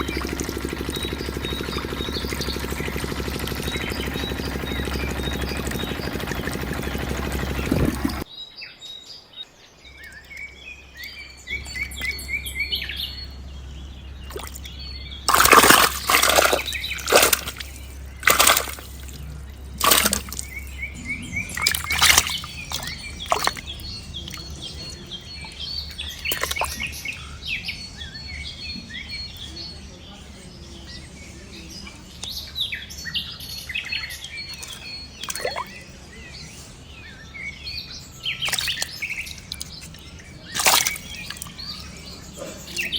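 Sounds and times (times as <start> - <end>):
low steady hum: 0.0 - 8.3, 10.0 - 42.9
small birds chirping: 0.0 - 42.9.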